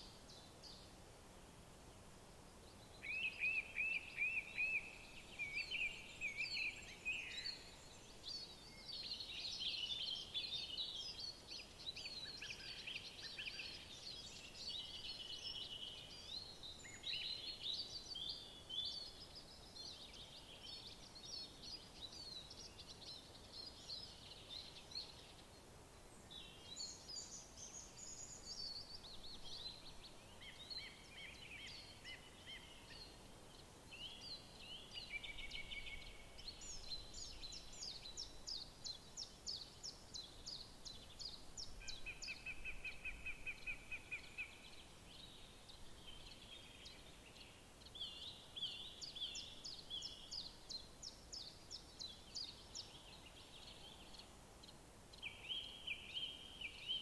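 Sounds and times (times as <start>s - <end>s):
faint background hiss: 0.0s - 57.0s
songbirds singing: 2.5s - 57.0s.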